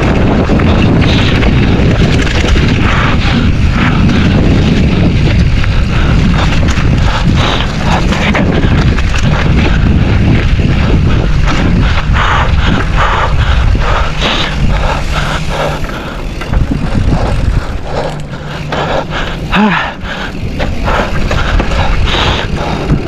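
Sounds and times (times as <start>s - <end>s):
bike rattling over bumps: 0.0s - 23.0s
wind buffeting microphone: 0.0s - 23.0s.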